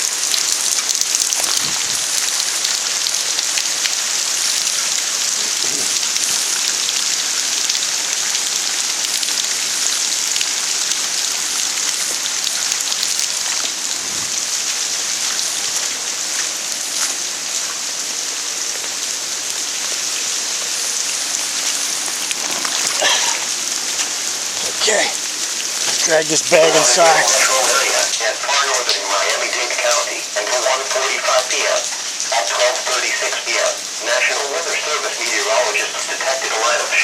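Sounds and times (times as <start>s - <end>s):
heavy rain hissing: 0.0s - 37.0s
raindrops ticking on surfaces: 0.0s - 37.0s.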